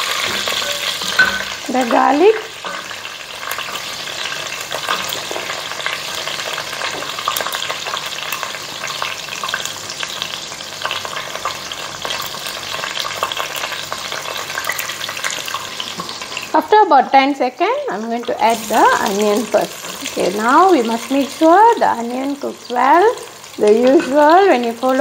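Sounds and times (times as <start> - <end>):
hot oil sizzling and popping: 0.0 - 25.0.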